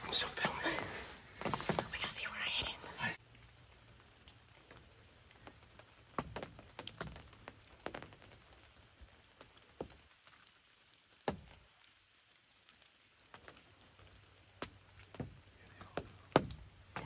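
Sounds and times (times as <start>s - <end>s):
faint hiss: 0.0s - 17.0s
raindrops tapping on fabric: 0.1s - 17.0s.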